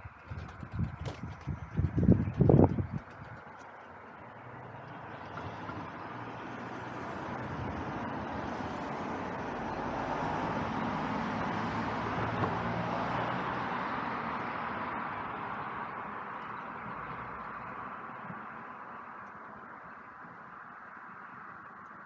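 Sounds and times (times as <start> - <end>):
passing traffic engine hum: 0.0 - 22.0.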